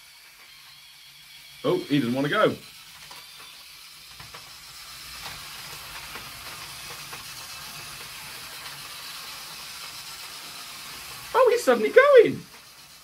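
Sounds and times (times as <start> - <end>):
toy car motors whirring: 0.0 - 13.0.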